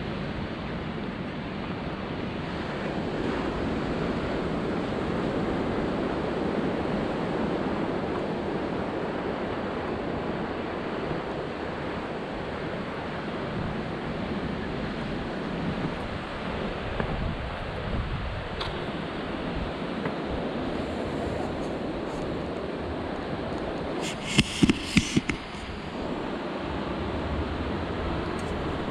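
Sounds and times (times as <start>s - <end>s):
ocean surf breaking: 0.1s - 28.9s
wind buffeting microphone: 1.8s - 28.9s.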